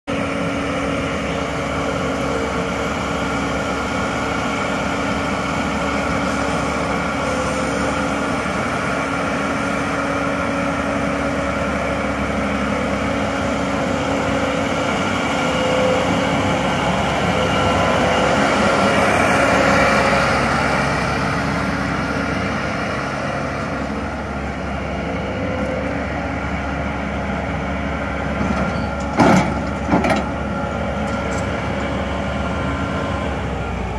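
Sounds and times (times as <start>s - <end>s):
farm machine engine running: 0.1s - 33.9s.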